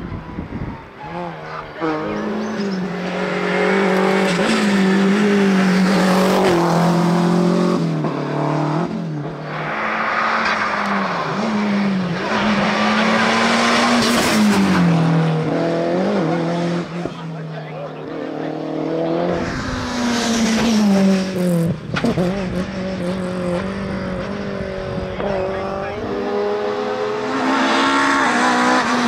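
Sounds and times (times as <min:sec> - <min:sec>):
rally car engines at full throttle: 0:00.0 - 0:29.0.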